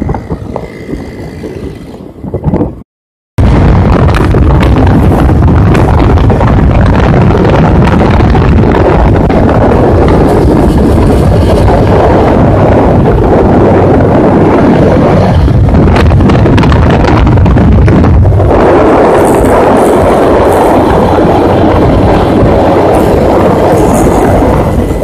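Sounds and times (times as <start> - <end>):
wind noise on microphone: 0.0 - 2.8, 3.4 - 25.0.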